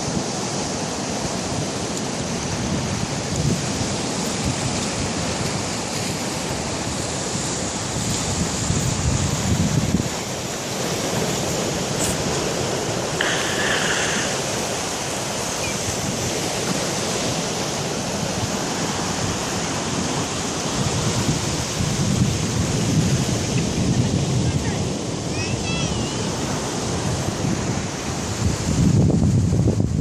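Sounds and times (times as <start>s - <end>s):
waves breaking: 0.0s - 29.7s
wind gusting over microphone: 0.0s - 30.0s.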